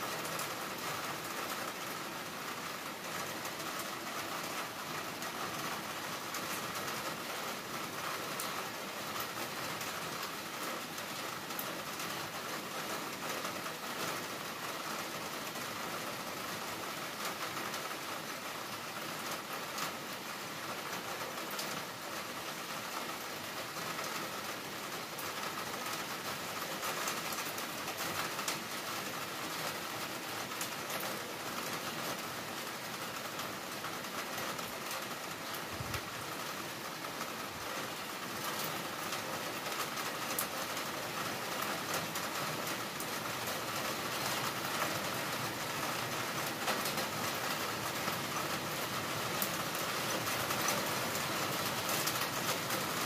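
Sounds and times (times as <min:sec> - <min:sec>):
raindrops ticking on surfaces: 0:00.0 - 0:53.0.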